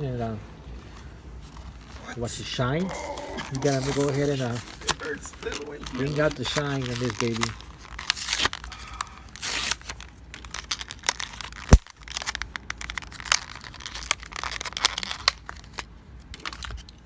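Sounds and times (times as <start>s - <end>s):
plastic packaging crinkling and tearing: 1.0s - 17.0s.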